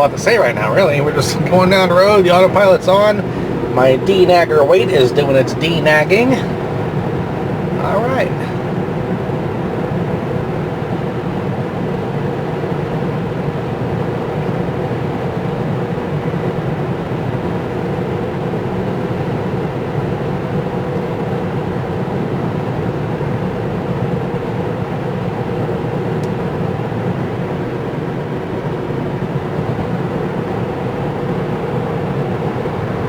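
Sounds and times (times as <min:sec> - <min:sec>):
wind noise in car cabin: 0:00.0 - 0:33.0.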